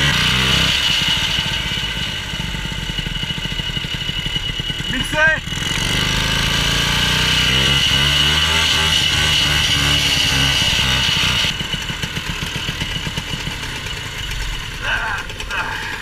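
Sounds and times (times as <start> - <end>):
snowmobile engine revving: 0.0 - 16.0.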